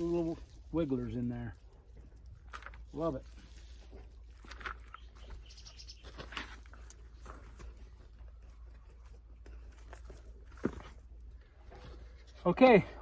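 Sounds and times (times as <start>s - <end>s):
hands rummaging through soil: 0.0s - 12.6s.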